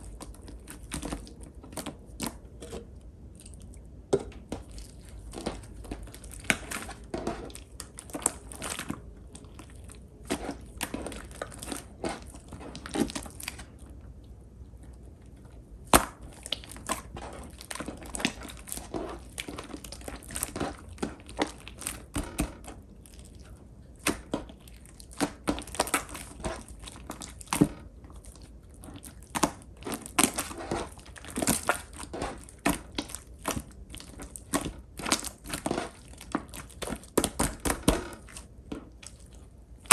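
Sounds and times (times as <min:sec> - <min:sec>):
slime squishing and popping: 0:00.0 - 0:13.8, 0:15.8 - 0:39.9.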